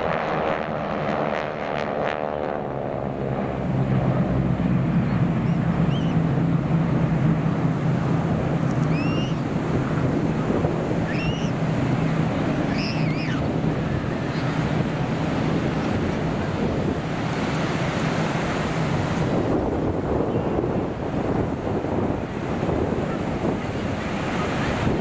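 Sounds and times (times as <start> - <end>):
propeller planes droning: 0.0 - 25.0
surf-like rush: 0.0 - 25.0
wind noise on microphone: 2.8 - 25.0.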